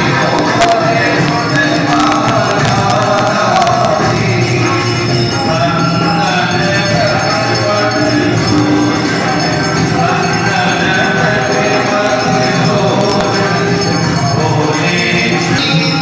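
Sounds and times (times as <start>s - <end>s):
group singing devotional song: 0.0s - 16.0s
jingling bells: 0.0s - 16.0s
tambourine: 0.0s - 16.0s.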